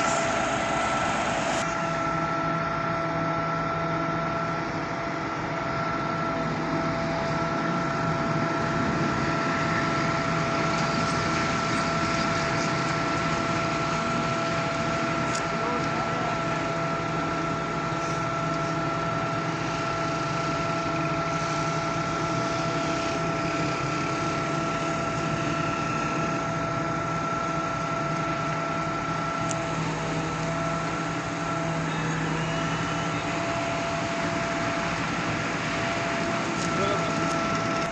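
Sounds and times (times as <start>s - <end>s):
engine drone: 0.0s - 37.9s
high-pitched machine whine: 0.0s - 37.9s.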